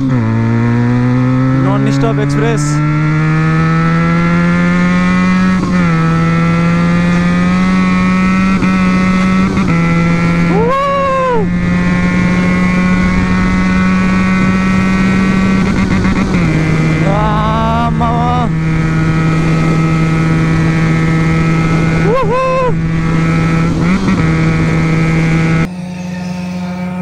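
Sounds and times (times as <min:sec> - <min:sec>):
motorcycle engine at road speed: 0:00.0 - 0:27.0
rising and falling tone: 0:00.1 - 0:27.0.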